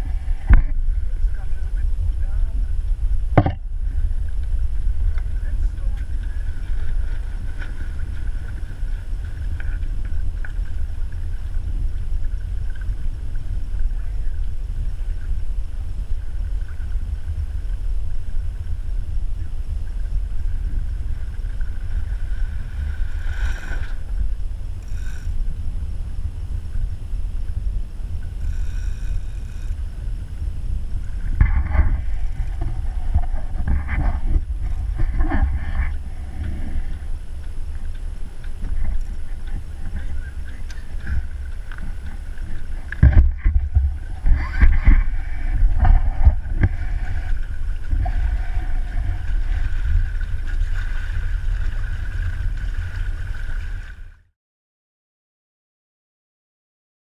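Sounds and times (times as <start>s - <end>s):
wind buffeting microphone: 0.0s - 54.2s
water washing along hull: 0.0s - 54.3s.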